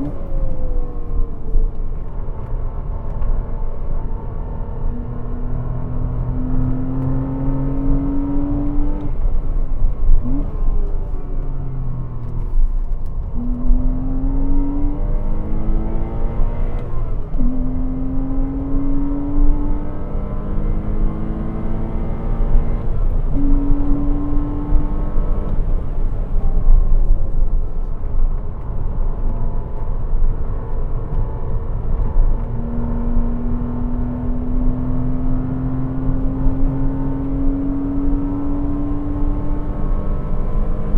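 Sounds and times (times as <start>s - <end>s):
car engine accelerating hard: 0.0s - 40.9s
road and wind noise: 0.0s - 40.9s.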